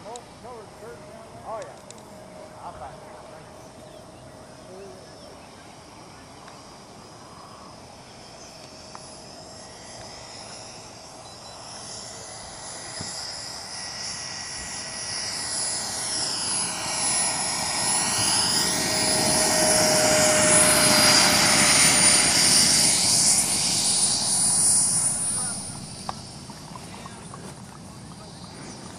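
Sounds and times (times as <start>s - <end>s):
high whine: 0.0s - 28.9s
model aircraft engine passing: 0.0s - 28.9s.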